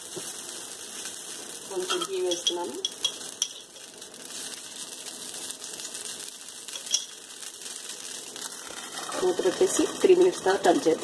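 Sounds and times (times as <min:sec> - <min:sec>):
batter sizzling on a griddle: 0:00.0 - 0:11.0
small sharp crackles: 0:00.1 - 0:10.5.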